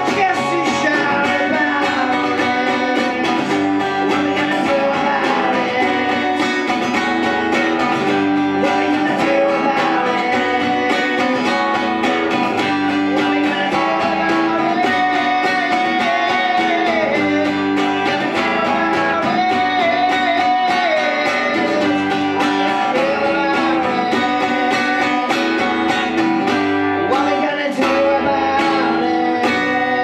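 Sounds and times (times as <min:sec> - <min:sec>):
acoustic guitar strumming: 0:00.0 - 0:30.0
man singing: 0:00.0 - 0:30.0.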